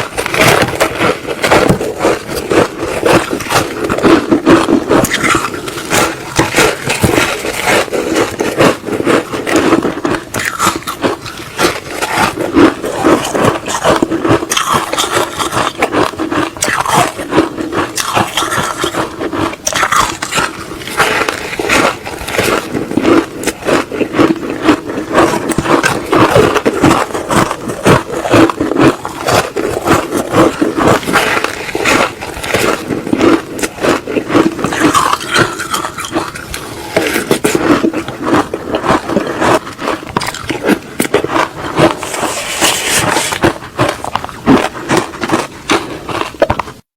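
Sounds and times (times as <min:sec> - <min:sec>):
crunching frozen ice: 0:00.0 - 0:46.8.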